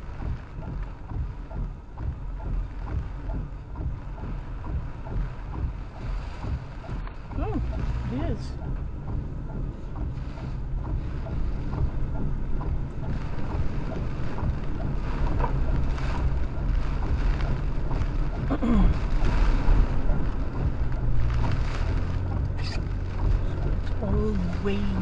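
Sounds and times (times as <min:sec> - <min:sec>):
truck engine and tyres rumbling: 0:00.0 - 0:25.0
wind and rain hissing: 0:00.0 - 0:25.0.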